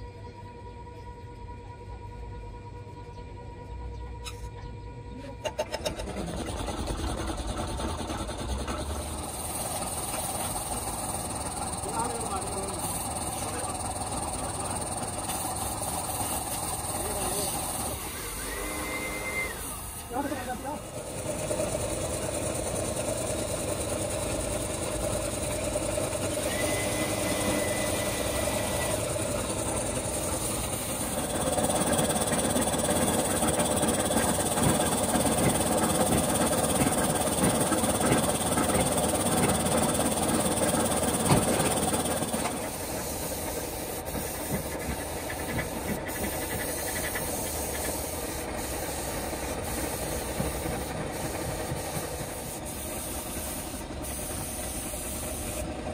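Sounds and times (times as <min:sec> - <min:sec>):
air compressor running: 0:05.1 - 0:55.9
spray gun hissing: 0:09.2 - 0:55.8.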